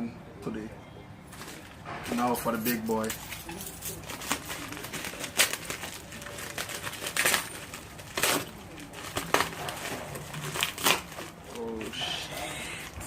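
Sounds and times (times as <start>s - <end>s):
packaging clicks and rustles: 1.3s - 13.0s.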